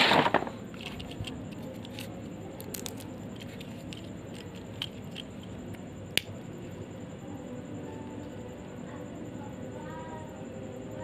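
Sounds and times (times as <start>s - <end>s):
steady low background noise: 0.0s - 11.0s.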